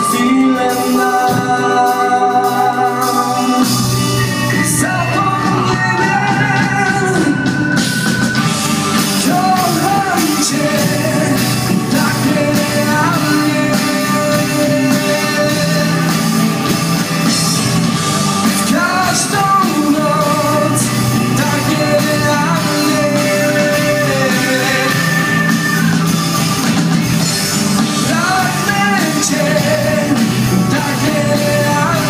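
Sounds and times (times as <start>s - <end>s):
person singing: 0.0s - 26.6s, 27.2s - 32.0s
live rock band playing: 0.0s - 32.0s.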